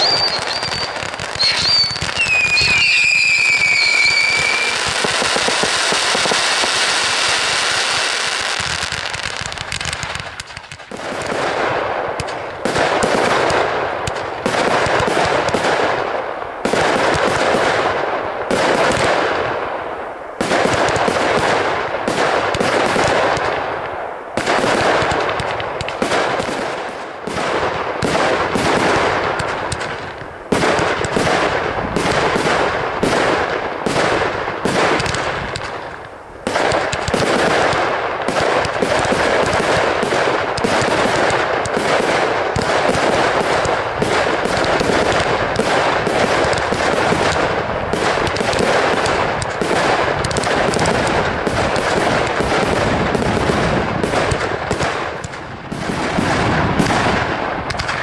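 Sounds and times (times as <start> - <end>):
fireworks bangs and cracks: 0.0 - 58.0.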